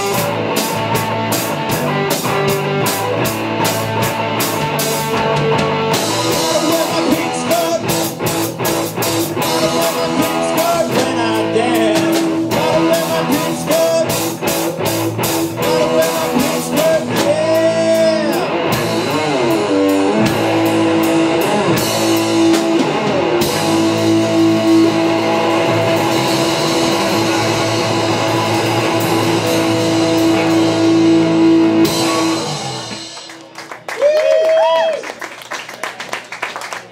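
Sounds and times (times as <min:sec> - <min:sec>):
distorted electric guitar: 0:00.0 - 0:33.5
drum kit: 0:00.0 - 0:34.8
bass guitar: 0:00.0 - 0:34.9.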